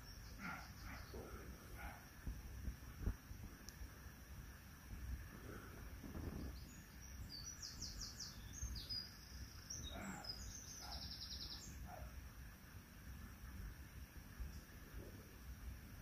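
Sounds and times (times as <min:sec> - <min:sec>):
songbird chirps and trills: 0:00.0 - 0:16.0.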